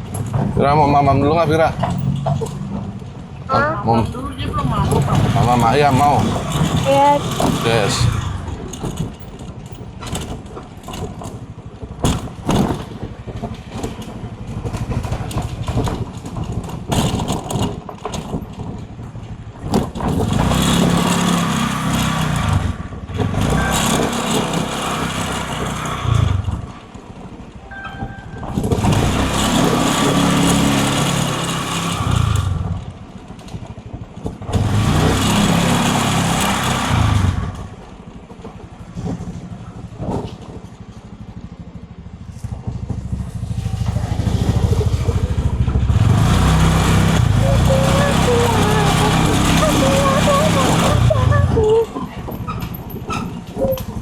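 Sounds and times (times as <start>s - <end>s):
vehicle engine noise: 0.0s - 54.0s.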